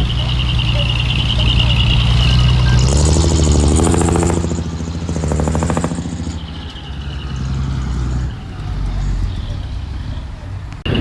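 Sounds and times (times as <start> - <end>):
heavy diesel machine engine: 0.0 - 11.0.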